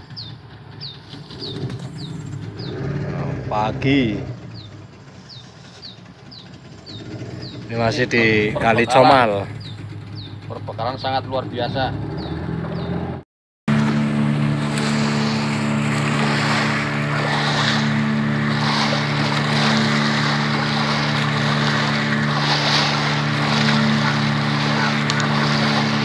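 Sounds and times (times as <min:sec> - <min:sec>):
water rushing along hull: 0:00.0 - 0:13.1, 0:13.7 - 0:26.0
boat engine running: 0:00.0 - 0:26.0.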